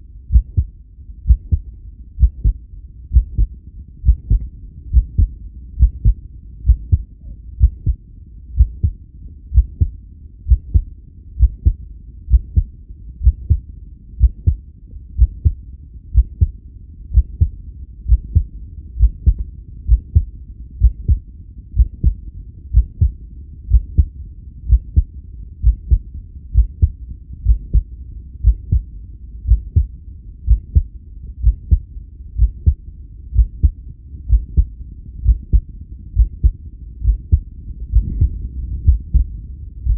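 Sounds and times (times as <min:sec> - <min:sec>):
heartbeat thuds: 0:00.3 - 0:00.7, 0:01.3 - 0:08.0, 0:08.6 - 0:14.6, 0:15.2 - 0:15.6, 0:16.2 - 0:28.9, 0:29.5 - 0:29.9, 0:30.5 - 0:32.8, 0:33.4 - 0:39.9.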